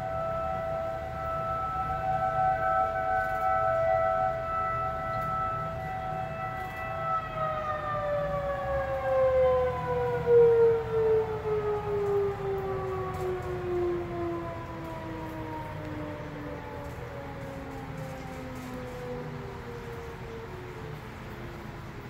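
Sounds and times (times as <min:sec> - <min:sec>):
warning sirens winding down: 0:00.0 - 0:22.0.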